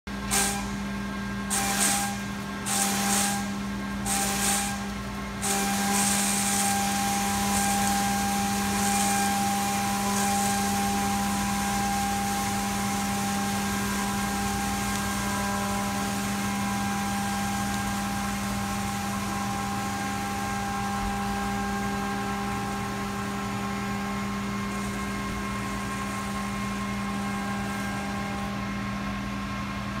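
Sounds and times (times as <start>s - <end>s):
coolant spray hiss: 1.5s - 28.3s
milling machine cutting metal: 1.5s - 28.7s.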